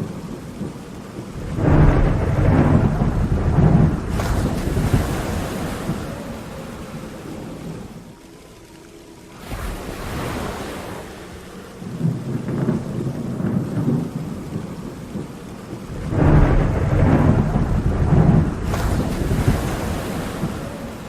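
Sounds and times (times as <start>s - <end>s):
thunder rolling: 0.0s - 8.1s, 11.8s - 21.0s
steady rain: 0.0s - 21.0s.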